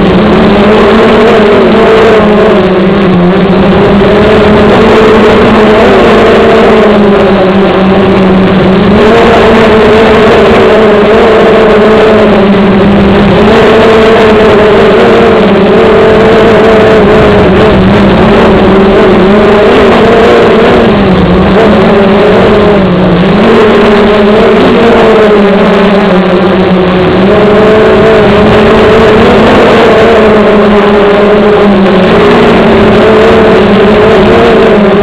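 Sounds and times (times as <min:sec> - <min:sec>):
drone motors buzzing whine: 0:00.0 - 0:35.0.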